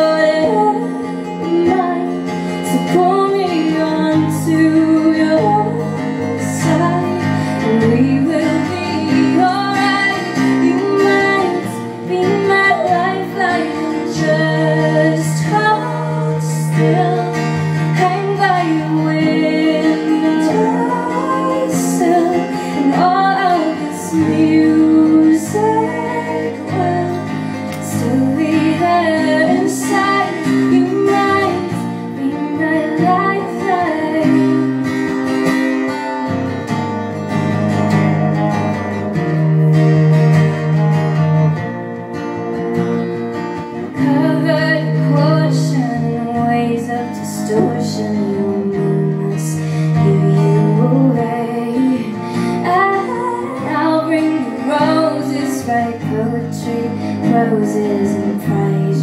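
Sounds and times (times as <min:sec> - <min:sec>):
acoustic guitars strumming: 0:00.0 - 0:59.0.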